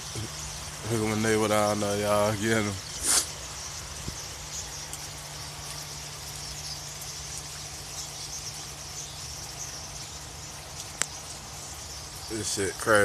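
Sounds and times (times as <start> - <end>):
high-pitched chorus of chirping: 0.0 - 13.0.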